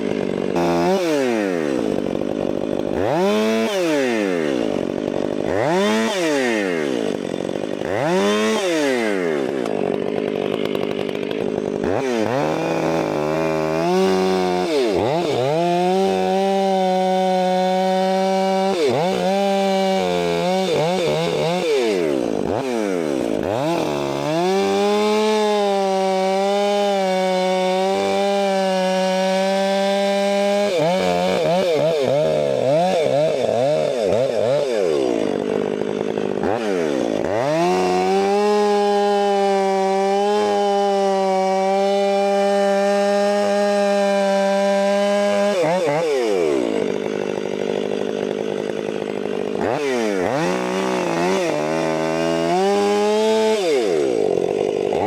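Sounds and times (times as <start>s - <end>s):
chainsaw running at high revs: 0.0s - 55.0s.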